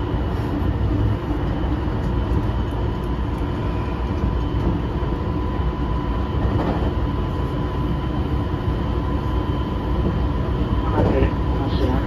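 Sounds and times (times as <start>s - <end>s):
steady high whine: 0.0s - 12.0s
train wheels rumbling on rail: 0.0s - 12.0s.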